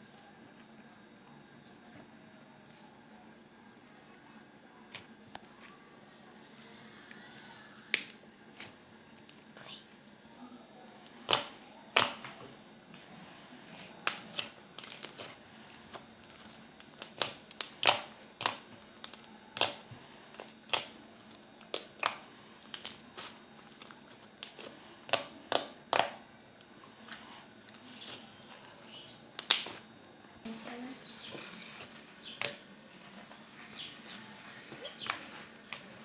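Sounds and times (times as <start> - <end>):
slime squishing: 4.9 - 9.8, 10.8 - 30.0, 30.8 - 36.0.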